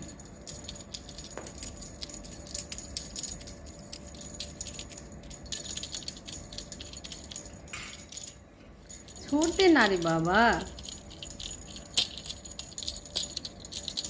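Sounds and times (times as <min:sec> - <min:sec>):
small jingle bell jingling: 0:00.0 - 0:14.0.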